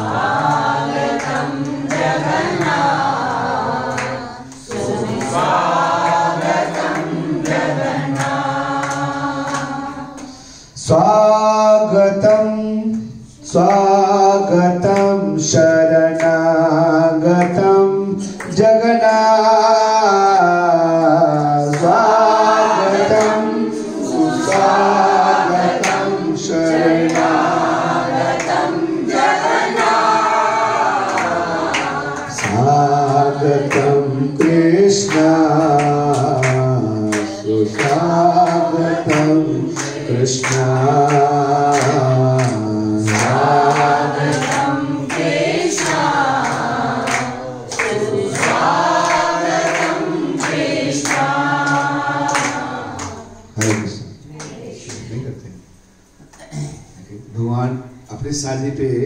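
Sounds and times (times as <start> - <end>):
hand clapping: 0.0 - 10.5, 12.3 - 14.1, 14.9 - 15.2, 16.1 - 16.5, 17.3 - 18.8, 21.0 - 23.6, 24.2 - 55.1
group singing back: 0.0 - 56.7.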